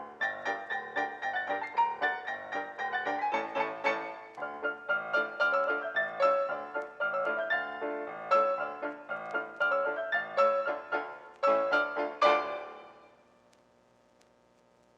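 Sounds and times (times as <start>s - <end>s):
piano notes and chords: 0.0s - 13.2s.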